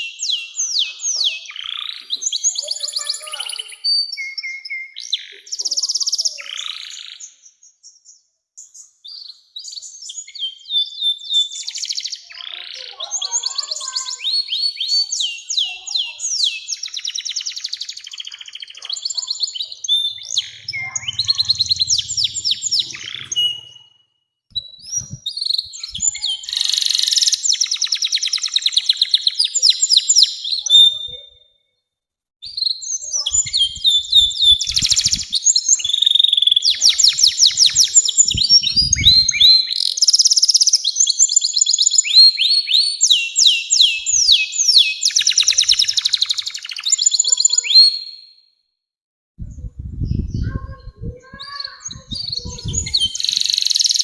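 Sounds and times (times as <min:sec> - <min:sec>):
canary singing trills: 0:00.0 - 0:31.6, 0:32.4 - 0:48.4, 0:49.9 - 0:54.0.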